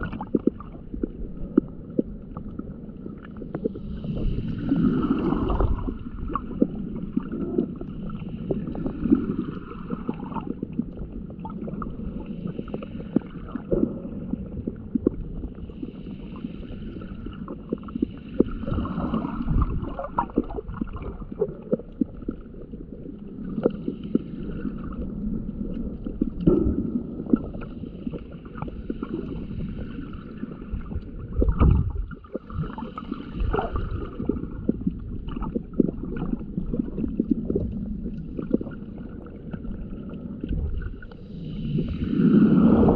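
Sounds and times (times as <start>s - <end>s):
muffled underwater sloshing: 0.0s - 42.9s.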